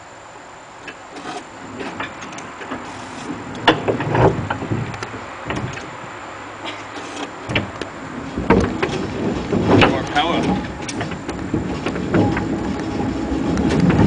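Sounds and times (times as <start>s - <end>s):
low electric motor hum: 0.0s - 14.0s
metallic clanks of wheels on track: 0.8s - 6.0s, 6.6s - 14.0s.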